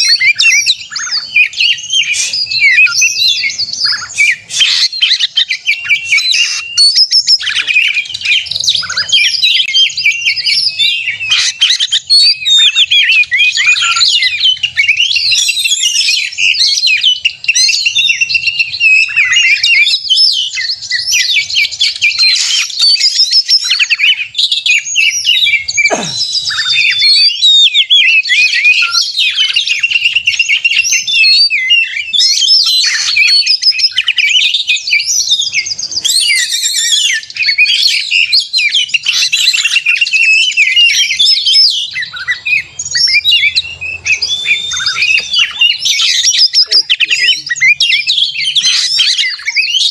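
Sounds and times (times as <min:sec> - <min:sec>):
bird singing whistles and trills: 0:00.0 - 0:49.9.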